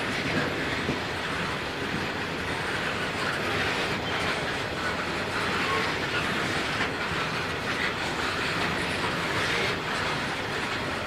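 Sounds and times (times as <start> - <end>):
steel wheels rolling on rail: 0.0 - 11.0.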